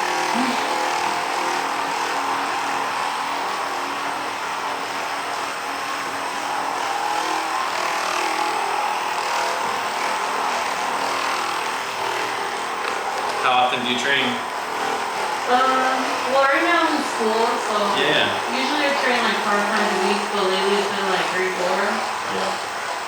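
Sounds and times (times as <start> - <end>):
massage gun motor buzz: 0.0 - 23.0.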